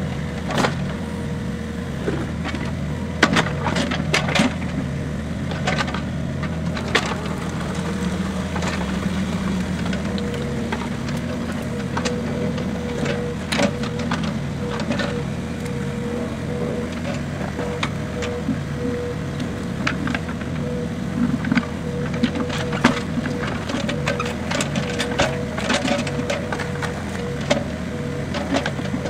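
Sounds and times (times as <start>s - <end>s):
excavator diesel engine running: 0.0s - 29.0s
steady whine: 0.0s - 29.0s
excavator bucket clanking: 2.0s - 29.0s.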